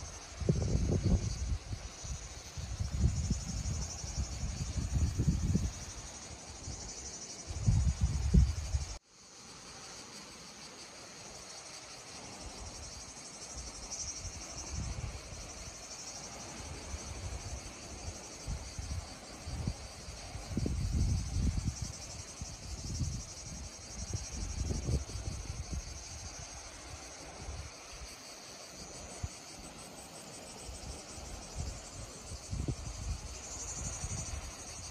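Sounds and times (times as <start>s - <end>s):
wind rumbling on microphone: 0.0s - 9.0s, 13.6s - 29.4s, 30.7s - 34.9s
insects chirring: 0.0s - 34.9s.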